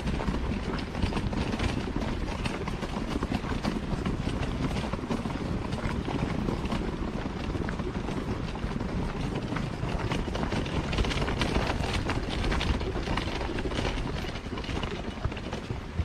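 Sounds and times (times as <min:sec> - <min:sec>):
footsteps on trail and wooden bridge: 0:00.0 - 0:16.0.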